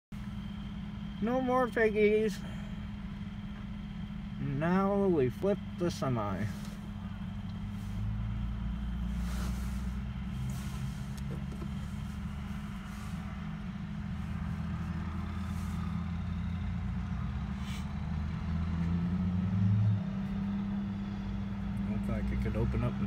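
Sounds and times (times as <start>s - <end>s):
vehicle engines idling: 0.1s - 23.0s.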